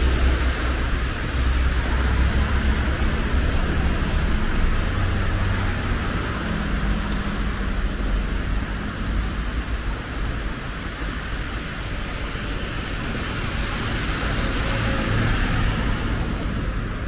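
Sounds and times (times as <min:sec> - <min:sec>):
rain: 0:00.0 - 0:17.0
tyres hissing on wet road: 0:00.0 - 0:17.0.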